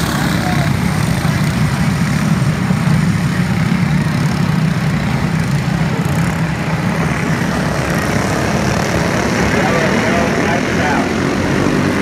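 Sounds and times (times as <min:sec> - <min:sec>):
racing kart engines droning: 0:00.0 - 0:12.0.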